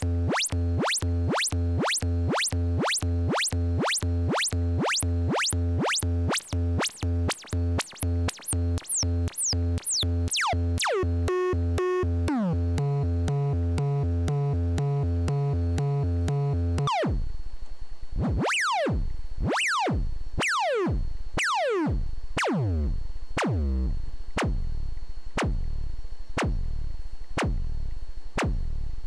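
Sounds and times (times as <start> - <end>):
synthesizer notes with pitch sweeps: 0.0 - 17.4, 18.2 - 29.0.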